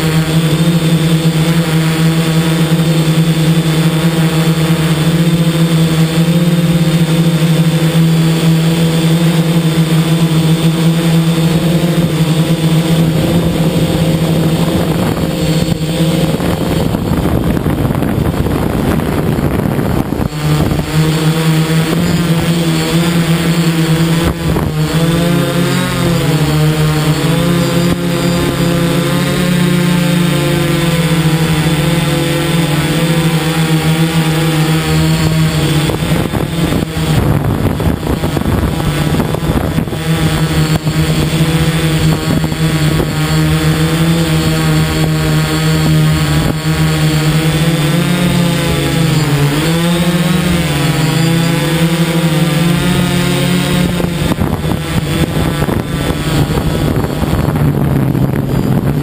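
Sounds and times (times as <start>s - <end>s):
drone motors and propellers humming: 0.0s - 59.0s.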